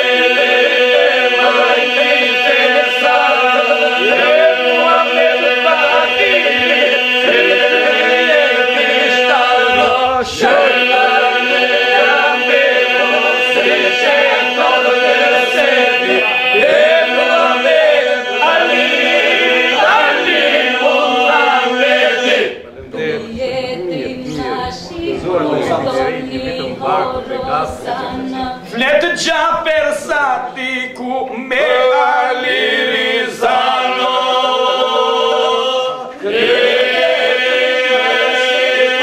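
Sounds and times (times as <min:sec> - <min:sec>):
group singing in chorus: 0:00.0 - 0:39.0.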